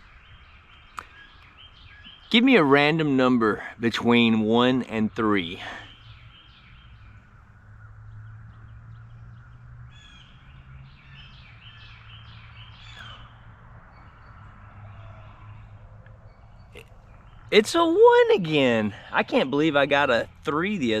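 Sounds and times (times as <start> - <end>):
bird calling: 0.0 - 21.0.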